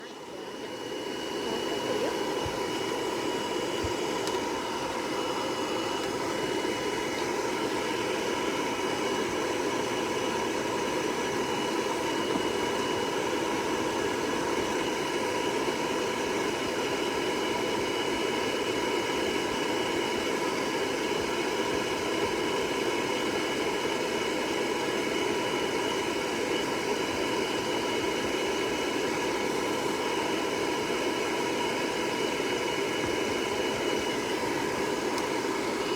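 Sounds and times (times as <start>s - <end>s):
hair dryer running: 0.0s - 35.9s.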